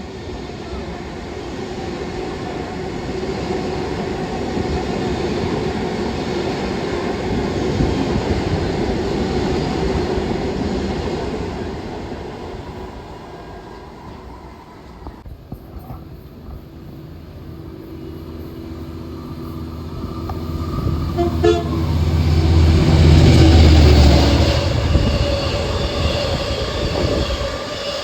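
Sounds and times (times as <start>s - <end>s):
train passing rumble: 0.0s - 28.0s.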